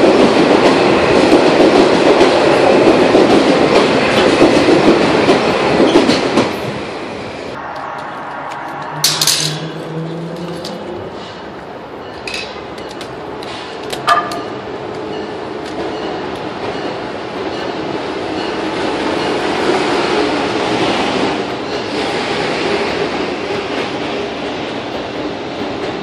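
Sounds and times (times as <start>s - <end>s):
train passing on rails: 0.0s - 26.0s.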